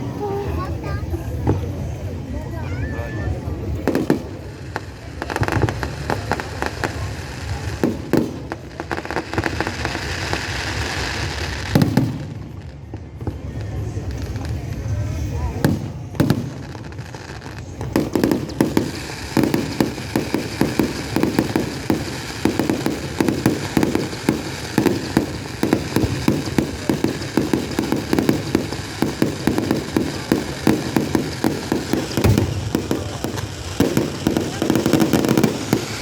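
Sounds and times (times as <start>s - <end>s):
fireworks bangs and crackle: 0.0s - 36.0s.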